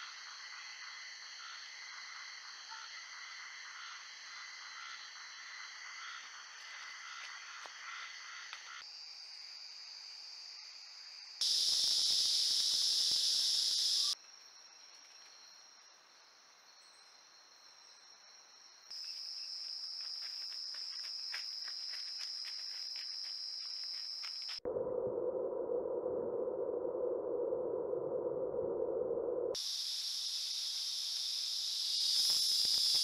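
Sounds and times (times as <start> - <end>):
insects trilling: 0.0 - 24.7, 29.6 - 33.0.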